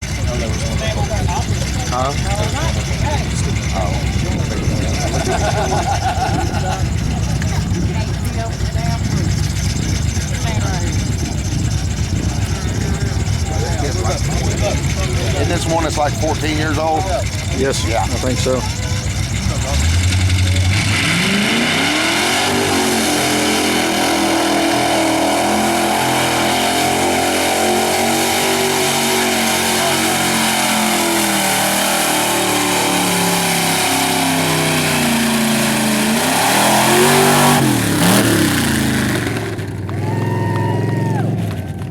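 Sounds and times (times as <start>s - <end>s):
truck engine revving hard: 0.0s - 41.9s.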